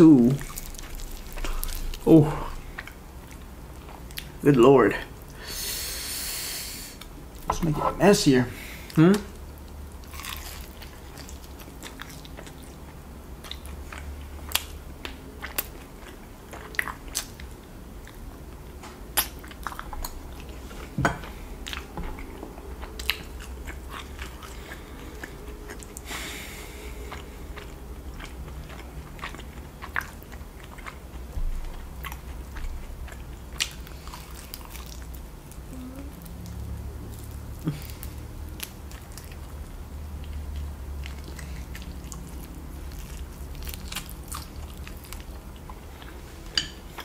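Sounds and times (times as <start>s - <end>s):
person chewing chicken: 0.0s - 4.4s, 8.8s - 47.0s.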